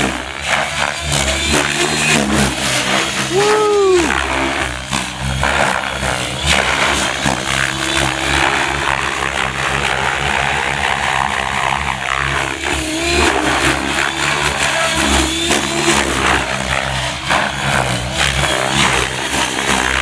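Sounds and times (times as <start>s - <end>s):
helicopter rotor whirring: 0.0s - 20.0s.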